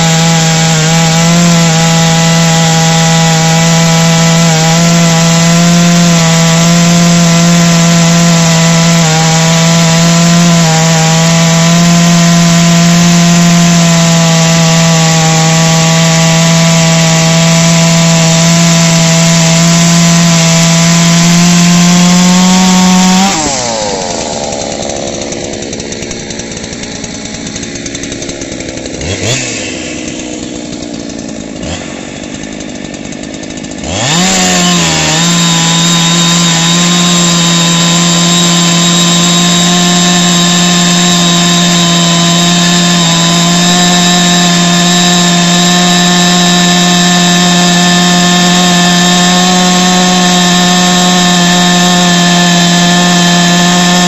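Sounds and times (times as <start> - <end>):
chainsaw cutting log at full throttle: 0.0 - 54.0
chainsaw engine blips: 0.0 - 54.0.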